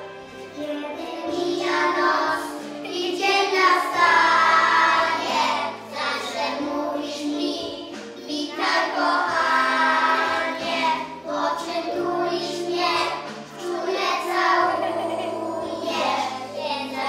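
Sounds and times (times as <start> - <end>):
children singing: 0.0 - 17.0
instrumental accompaniment: 0.0 - 17.0.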